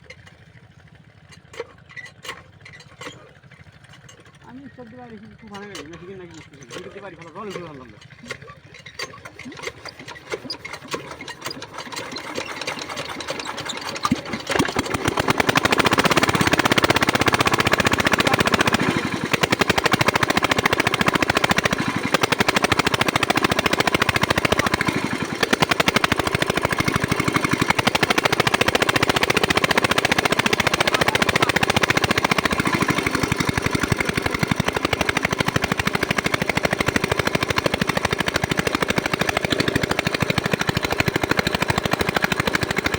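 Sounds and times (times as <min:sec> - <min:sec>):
diesel pump engine knocking: 0:00.0 - 0:42.9.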